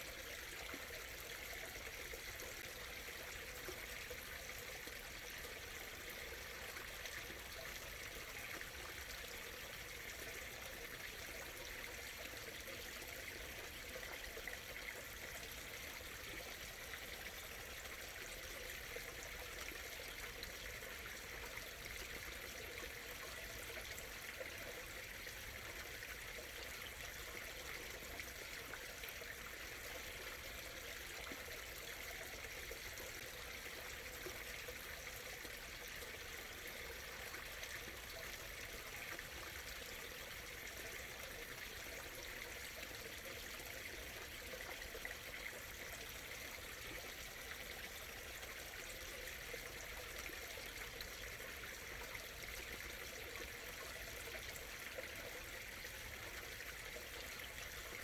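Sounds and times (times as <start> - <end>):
stream trickling over stones: 0.0 - 58.0.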